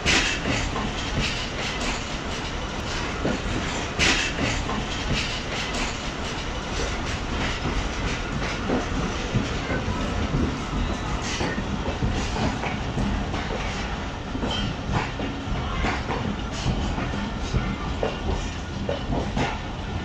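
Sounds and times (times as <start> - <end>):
train rumble: 0.0 - 20.0
train wheels clacking over rail joints: 0.0 - 20.0.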